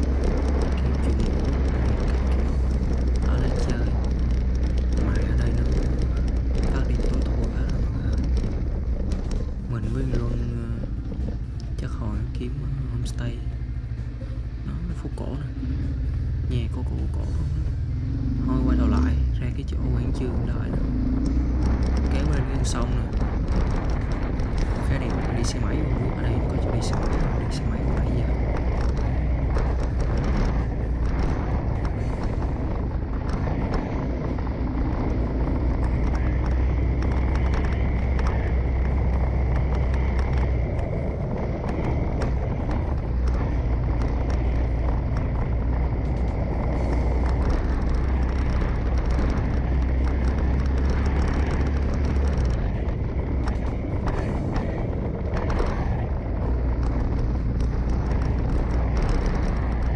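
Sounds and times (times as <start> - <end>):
motorcycle engine hum: 0.0 - 59.9.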